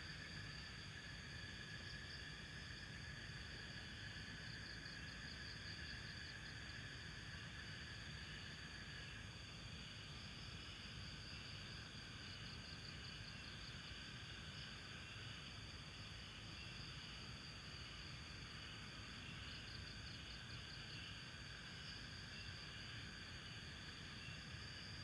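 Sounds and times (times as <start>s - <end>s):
night insects chirring: 0.0s - 25.0s.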